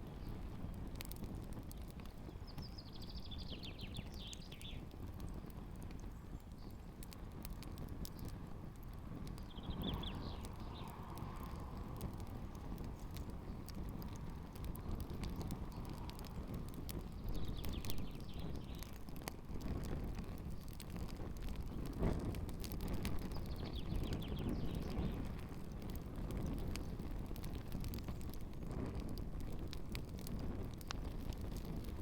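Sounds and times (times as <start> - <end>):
campfire crackling and popping: 0.0 - 32.0
low fire rumble: 0.0 - 32.0.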